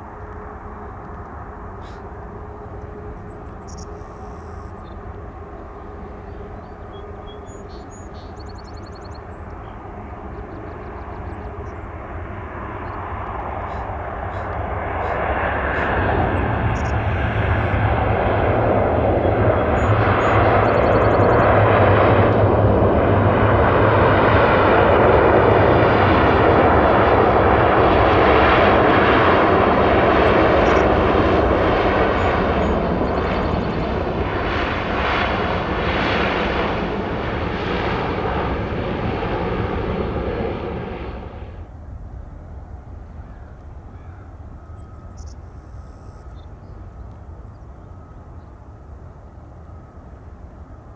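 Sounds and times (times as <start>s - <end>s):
airliner engines passing: 0.0s - 50.9s.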